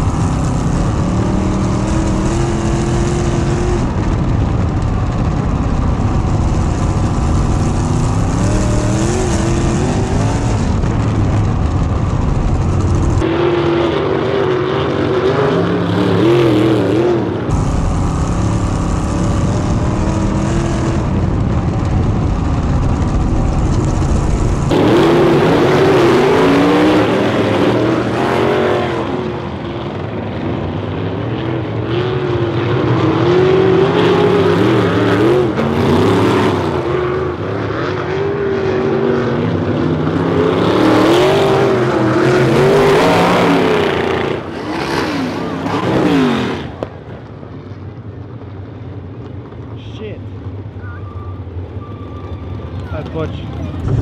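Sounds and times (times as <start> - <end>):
race car engine low rumble: 0.0 - 54.0
race cars passing by: 0.0 - 54.0.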